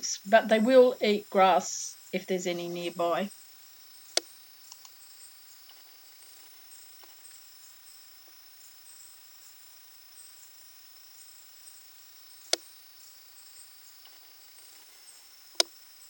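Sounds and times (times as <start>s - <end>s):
insect chirps: 0.0s - 16.0s
insects droning: 0.0s - 16.0s.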